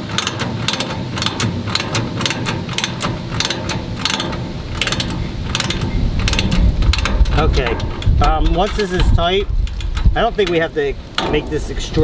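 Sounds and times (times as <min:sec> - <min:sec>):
ratchet wrench clicking: 0:00.0 - 0:11.3.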